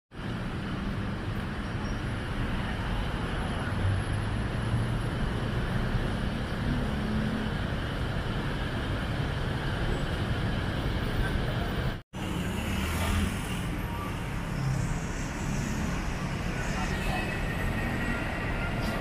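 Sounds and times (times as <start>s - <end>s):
passing cars: 0.2s - 19.0s.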